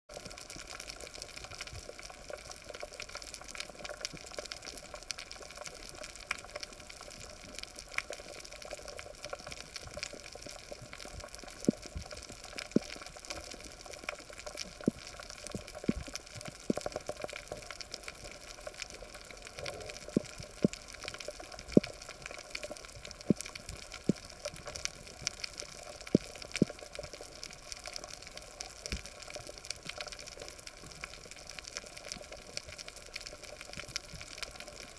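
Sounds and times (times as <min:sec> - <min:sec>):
underwater crackling hiss: 0:00.2 - 0:34.9.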